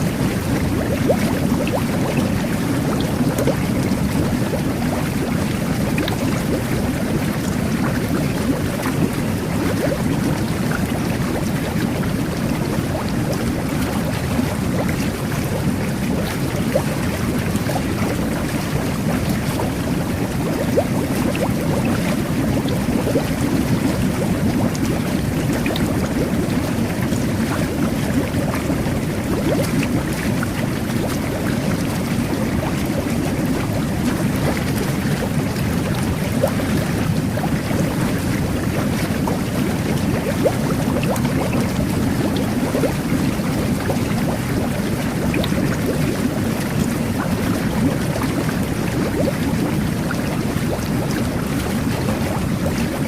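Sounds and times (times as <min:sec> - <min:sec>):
jet bath bubbling: 0:00.0 - 0:53.0.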